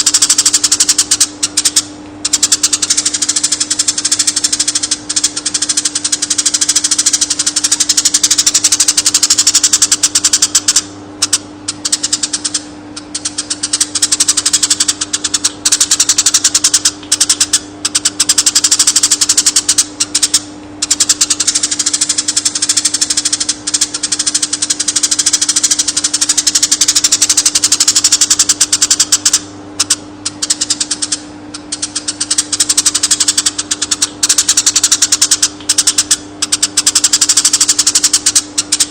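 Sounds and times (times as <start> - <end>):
bird chattering trill: 0.0 - 38.9
steady low hum: 0.0 - 38.9.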